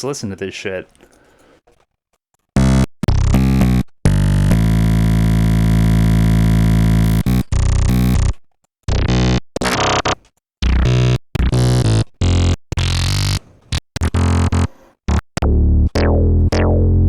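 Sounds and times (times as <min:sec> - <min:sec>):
buzzy synthesizer notes: 0:02.6 - 0:17.0.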